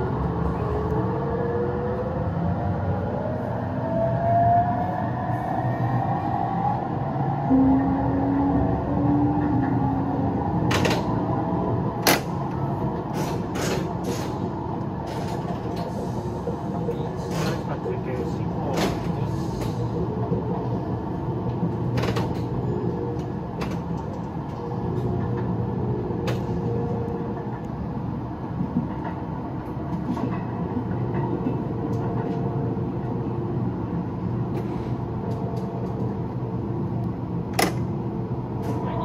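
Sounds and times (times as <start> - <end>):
electric train rumble and hum: 0.0 - 39.0.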